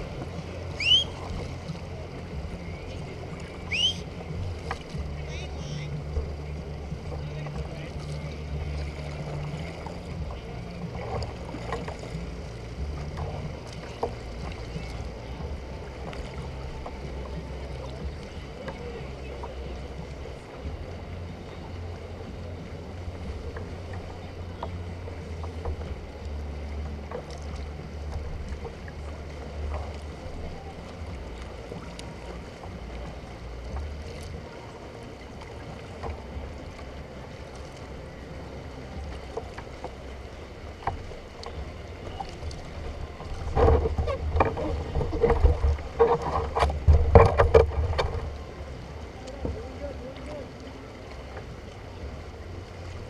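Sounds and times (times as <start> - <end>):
paddle splashes and knocks: 0.0 - 53.0
water lapping at hull: 0.0 - 53.0
wind rumble on microphone: 0.0 - 53.0.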